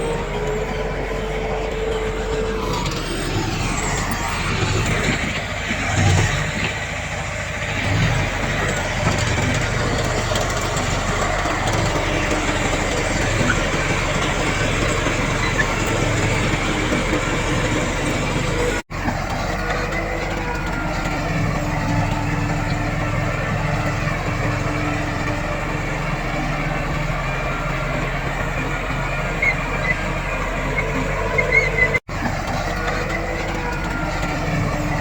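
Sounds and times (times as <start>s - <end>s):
diesel engines of heavy machinery: 0.0s - 35.0s.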